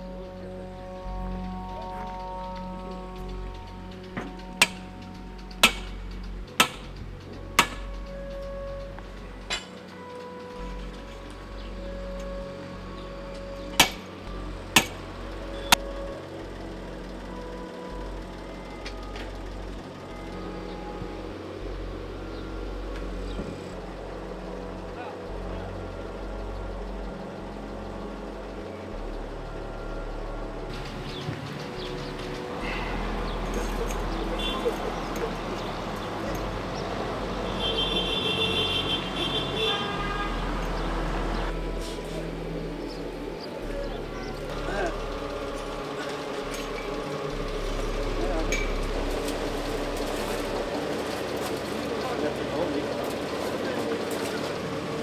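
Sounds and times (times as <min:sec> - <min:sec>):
drilling rig engine humming: 0:00.0 - 0:55.0
outdoor background noise: 0:00.0 - 0:55.0
steady pitched tone: 0:00.0 - 0:55.0.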